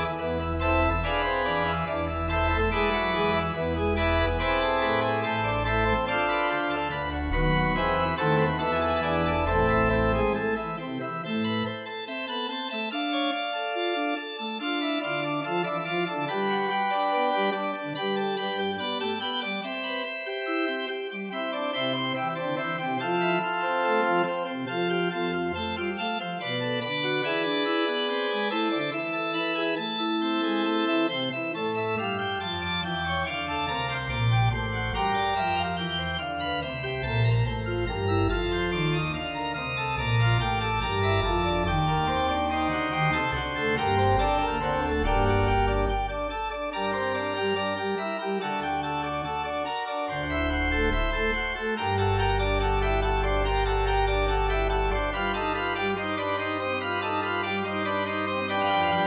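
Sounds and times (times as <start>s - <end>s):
organ music: 0.0s - 59.0s.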